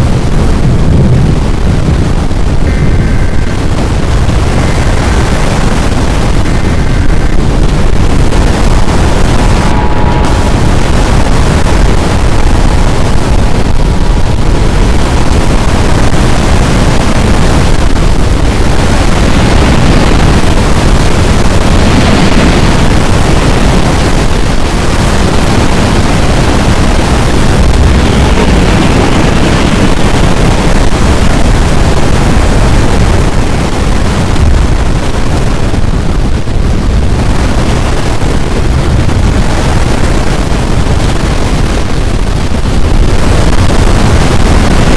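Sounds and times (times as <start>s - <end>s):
strong wind on microphone: 0.0s - 44.9s.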